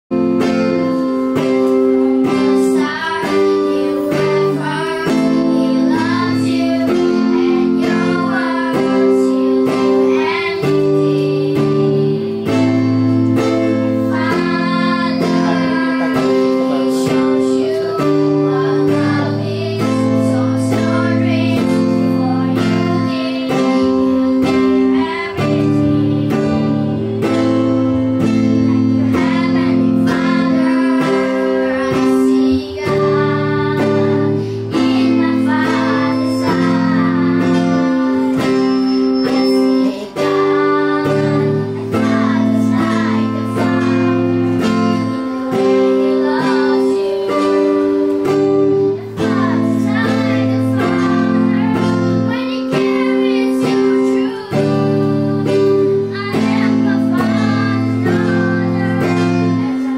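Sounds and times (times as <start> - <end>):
guitar: 0.0 - 59.9
keyboard chords: 0.0 - 59.9
girls singing: 0.2 - 59.9.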